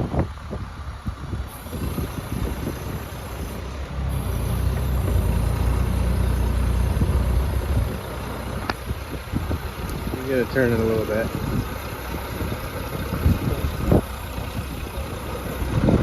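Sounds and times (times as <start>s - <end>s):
diesel engine revving: 0.9s - 16.0s.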